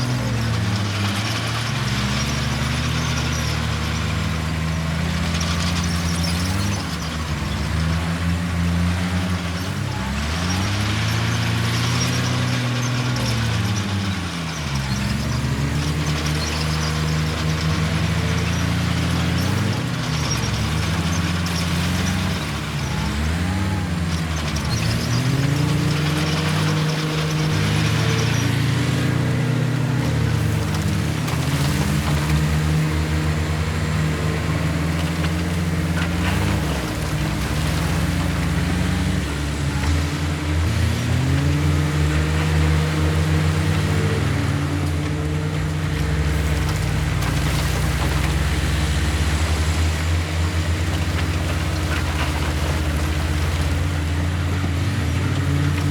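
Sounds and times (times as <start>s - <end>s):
heavy diesel engine revving: 0.0s - 55.9s.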